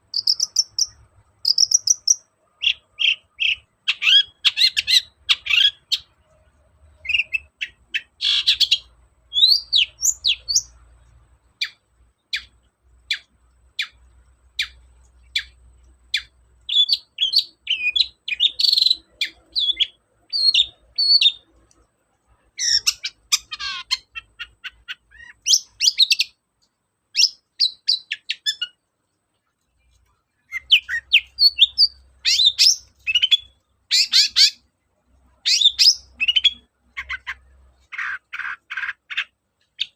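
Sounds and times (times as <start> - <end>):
bird singing high chirps: 0.0 - 6.2, 6.9 - 10.8, 11.6 - 14.0, 14.6 - 21.6, 22.5 - 26.4, 27.1 - 28.8, 30.3 - 34.7, 35.3 - 39.9.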